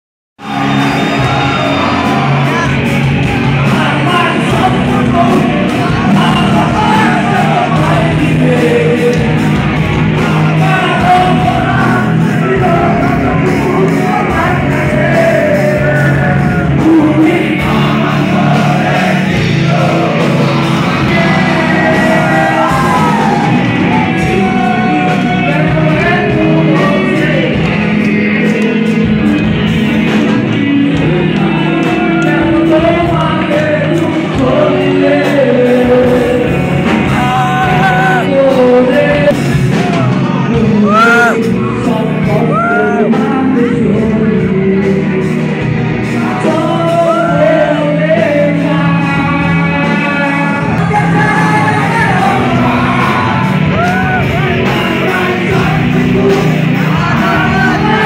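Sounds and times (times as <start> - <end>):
crowd shouting along: 0.4 - 41.7, 50.6 - 58.0
person singing: 0.4 - 58.0
rock band playing loud: 0.4 - 58.0.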